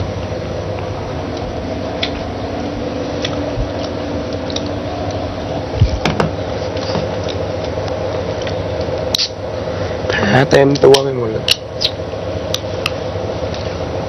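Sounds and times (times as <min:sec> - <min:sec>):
steady microphone hum: 0:00.0 - 0:14.0.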